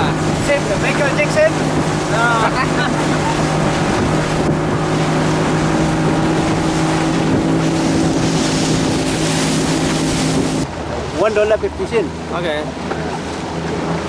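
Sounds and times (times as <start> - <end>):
wind noise: 0.0 - 11.5
outboard motor drone: 0.0 - 14.0
rushing water: 0.0 - 14.0.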